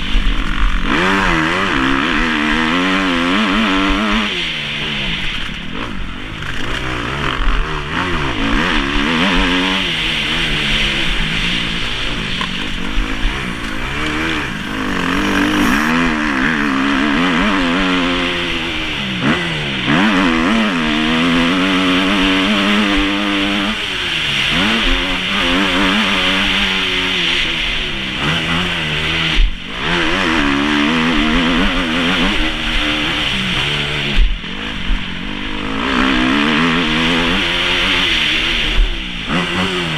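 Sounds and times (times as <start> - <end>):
motocross engine revving: 0.4 - 39.9.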